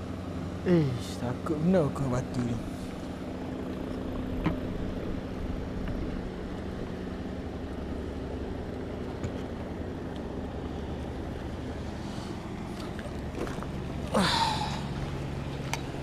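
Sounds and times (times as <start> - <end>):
faint engine hum: 0.0 - 16.0
low outdoor rumble: 0.0 - 16.0.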